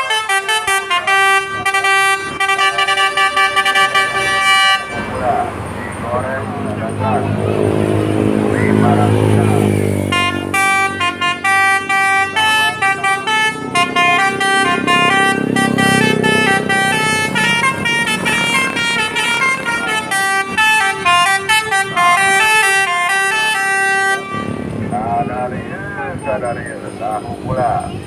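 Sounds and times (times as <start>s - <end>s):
multi-tone bus horn melody: 0.0s - 26.5s
bus engine rumble: 0.0s - 28.0s.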